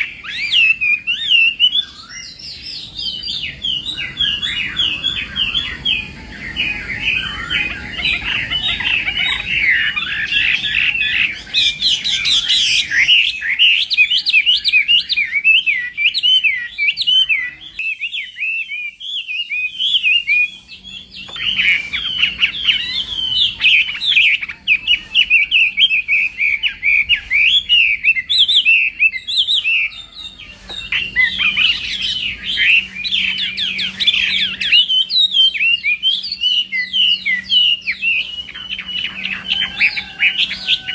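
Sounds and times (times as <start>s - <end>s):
bird singing whistled song: 0.0s - 40.9s.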